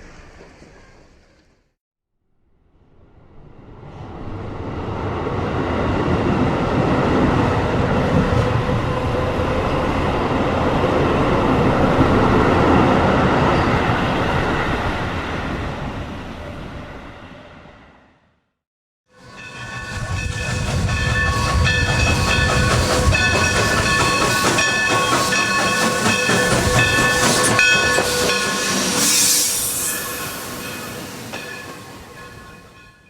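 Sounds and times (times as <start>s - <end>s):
train rumbling on rails: 0.0s - 1.8s, 2.8s - 18.2s, 19.1s - 33.0s.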